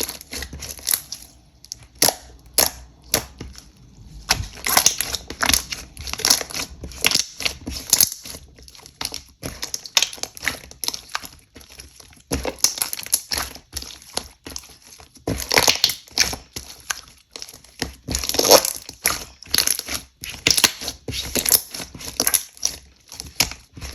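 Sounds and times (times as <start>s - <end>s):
slime squished crackling: 0.0s - 23.9s.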